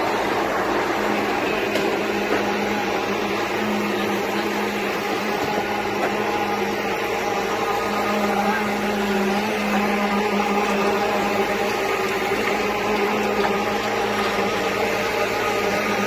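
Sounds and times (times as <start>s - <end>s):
concrete pump drone: 0.0s - 16.0s.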